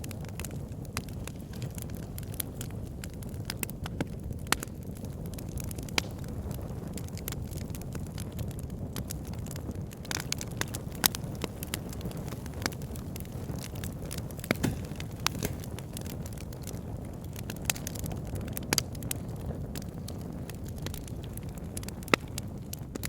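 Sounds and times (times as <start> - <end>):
campfire flames rumbling: 0.0 - 23.0
fire crackling and popping: 0.0 - 23.0.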